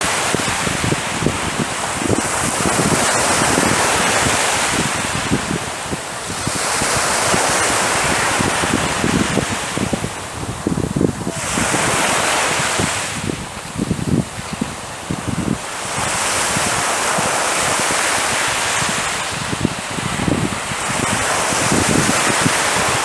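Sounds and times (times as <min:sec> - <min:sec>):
sea waves breaking: 0:00.0 - 0:23.0
wind buffeting microphone: 0:00.0 - 0:23.0.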